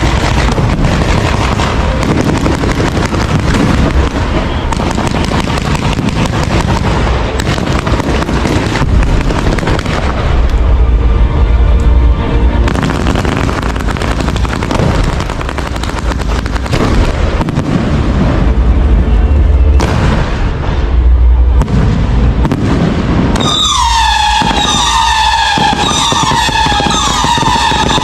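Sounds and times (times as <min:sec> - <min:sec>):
whistling fireworks: 0:00.0 - 0:10.9, 0:12.6 - 0:28.0
fireworks crackling and booming: 0:00.0 - 0:28.0.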